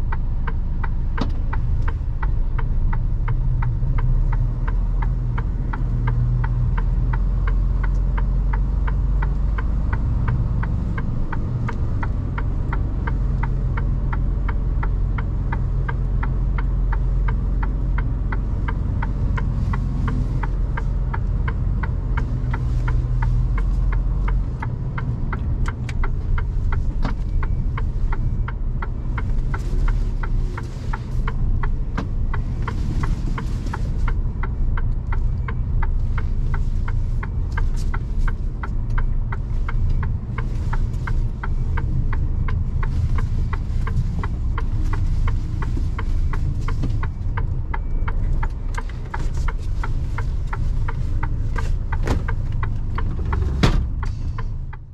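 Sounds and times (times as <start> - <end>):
diesel engine rumbling: 0.0 - 54.9
indicator ticking: 0.0 - 54.9.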